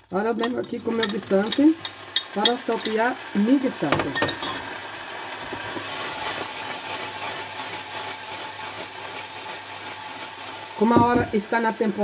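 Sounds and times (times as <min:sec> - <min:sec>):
peas sizzling in oil: 0:00.0 - 0:12.0.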